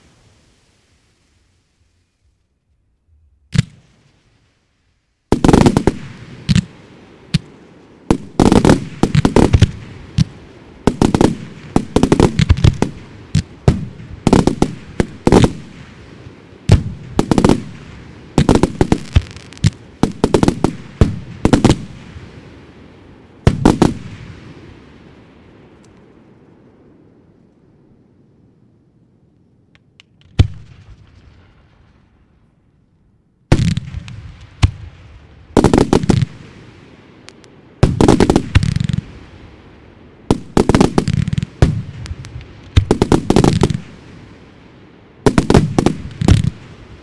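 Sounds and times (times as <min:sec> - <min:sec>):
fireworks bangs and crackle: 0:03.5 - 0:27.4, 0:29.7 - 0:32.7, 0:33.5 - 0:47.0.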